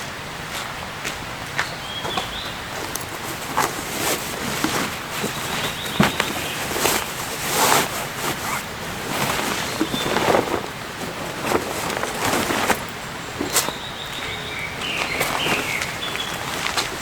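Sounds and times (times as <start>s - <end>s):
rustling and scraping of handling: 2.0s - 17.0s.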